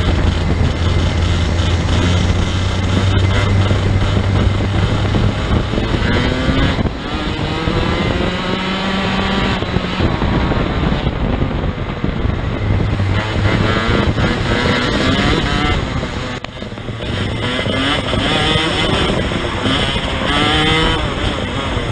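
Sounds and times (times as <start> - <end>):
racing kart engines: 0.0 - 21.9.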